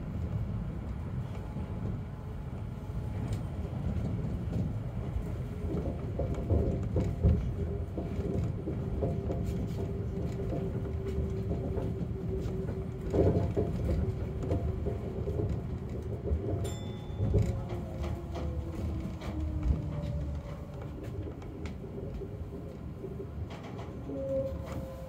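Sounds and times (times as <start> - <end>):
monorail train rumble: 0.0 - 25.0.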